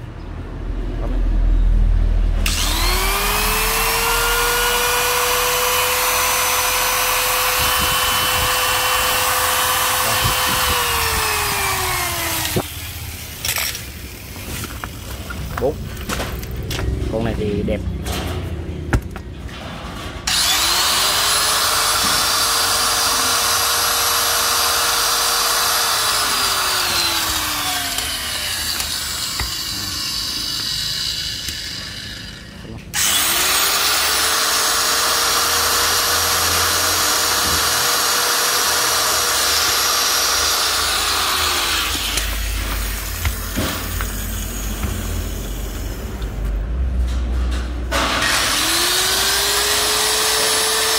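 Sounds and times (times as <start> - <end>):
angle grinder motor whining: 2.4 - 14.9, 20.3 - 46.4, 48.0 - 50.9.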